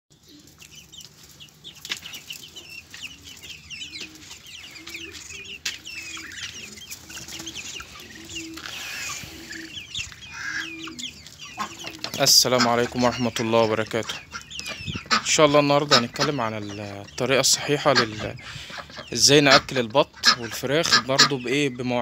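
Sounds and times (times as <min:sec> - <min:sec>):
hens clucking: 0:00.3 - 0:22.0.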